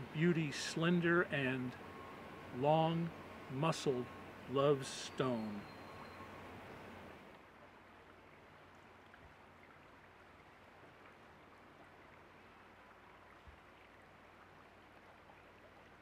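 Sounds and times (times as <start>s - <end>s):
stream running over stones: 0.0s - 5.6s, 7.3s - 16.0s.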